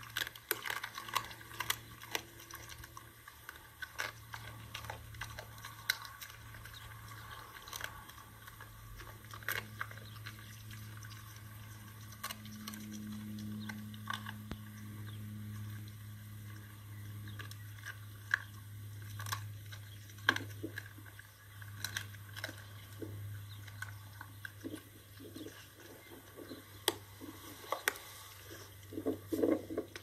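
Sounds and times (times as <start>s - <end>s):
dog chewing and crunching bones: 0.0s - 30.0s
steady low hum: 0.0s - 30.0s.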